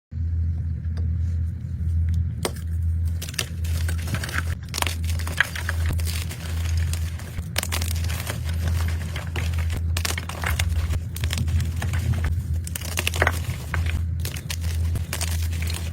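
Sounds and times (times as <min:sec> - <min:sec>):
steady low hum: 0:00.1 - 0:15.9
chalk crunching and crackling: 0:02.5 - 0:15.9.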